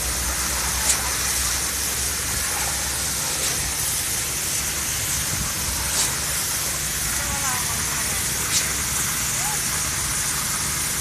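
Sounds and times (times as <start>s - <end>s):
concrete pump engine drone: 0.0s - 11.0s
constant hiss of pumping: 0.0s - 11.0s.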